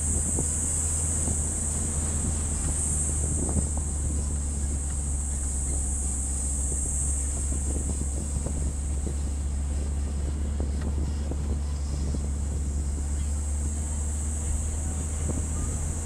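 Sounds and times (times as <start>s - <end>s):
vehicle engine and tyres rumble: 0.0s - 16.0s.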